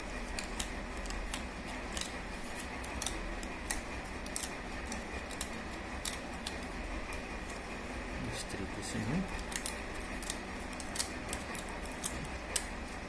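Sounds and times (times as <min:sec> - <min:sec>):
scissors snipping paper: 0:00.0 - 0:07.6, 0:09.3 - 0:13.0
faint steady hum: 0:00.0 - 0:13.0.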